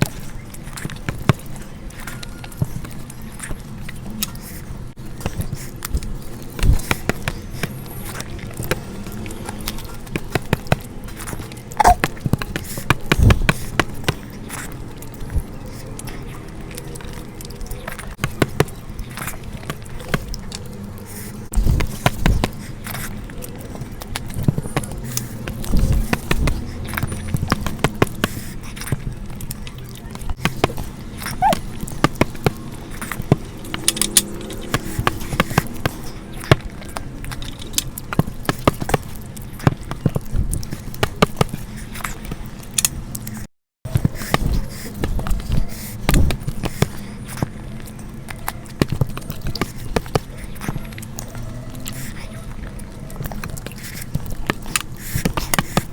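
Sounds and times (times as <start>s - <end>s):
lip smacks: 0.0s - 55.9s
wet chewing: 0.0s - 55.9s.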